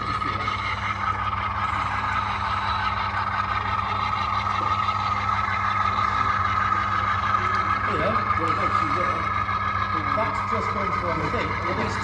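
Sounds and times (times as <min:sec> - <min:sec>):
diesel engine drone from small speaker: 0:00.0 - 0:12.0.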